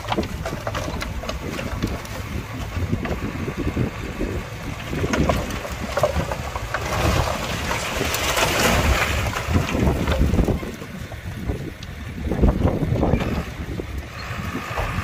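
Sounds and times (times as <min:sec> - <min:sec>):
machinery knocks and clatter: 0:00.0 - 0:11.2, 0:12.4 - 0:15.0
heavy diesel machinery rumble: 0:00.0 - 0:15.0
wind on microphone: 0:00.0 - 0:15.0.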